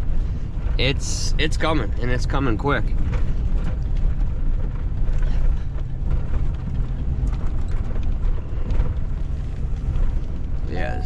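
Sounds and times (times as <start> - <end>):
vehicle rumbling on rough road: 0.0 - 11.0.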